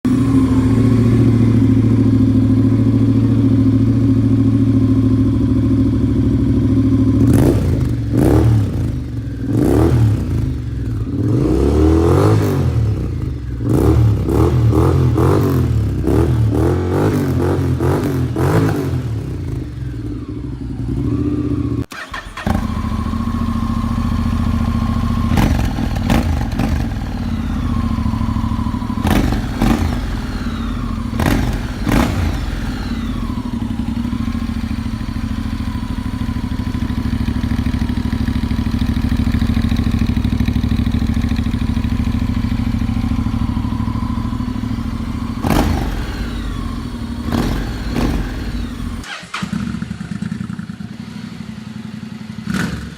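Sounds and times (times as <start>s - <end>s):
motorcycle engine idling and revving: 0.0s - 52.9s.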